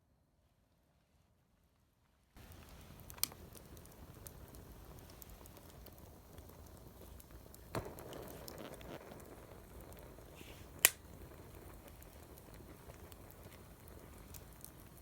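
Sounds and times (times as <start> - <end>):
fire crackles: 2.4 - 15.0
wood fire hissing: 2.4 - 15.0.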